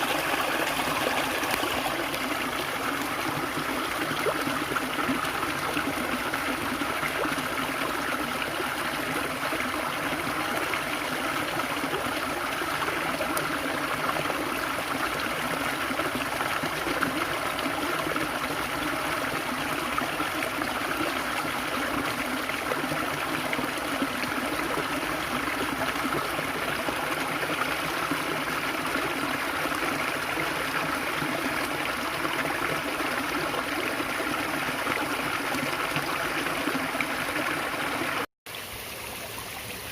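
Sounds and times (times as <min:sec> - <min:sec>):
water babbling in a stream: 0:00.0 - 0:39.9.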